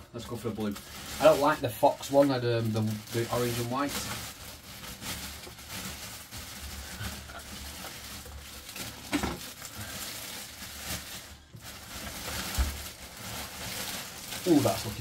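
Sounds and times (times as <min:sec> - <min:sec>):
plastic bag rustling: 0:00.0 - 0:15.0
sharp plastic crackle: 0:00.0 - 0:15.0.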